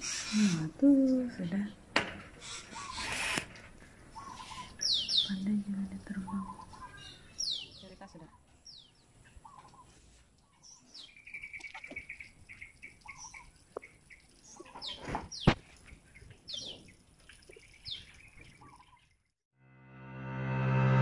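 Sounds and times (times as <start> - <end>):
small birds chirping: 2.4 - 19.2.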